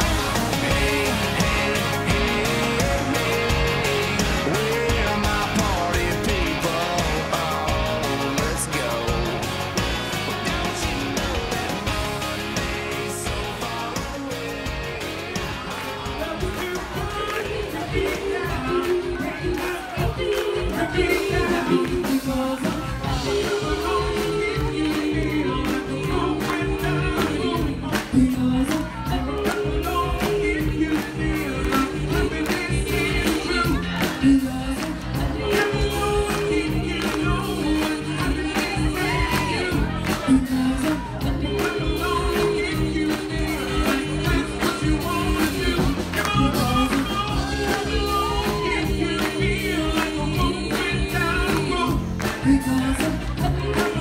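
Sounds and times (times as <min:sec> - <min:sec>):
live band playing dance music: 0:00.0 - 0:54.0
person singing: 0:00.0 - 0:54.0.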